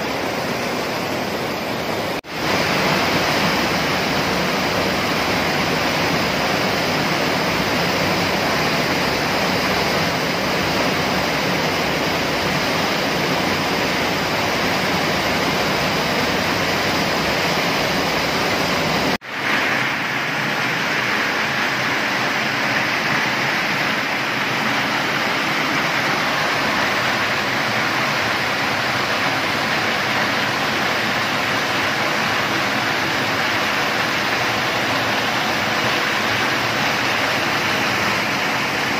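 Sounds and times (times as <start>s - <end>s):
water rushing through turbine: 0.0s - 38.9s.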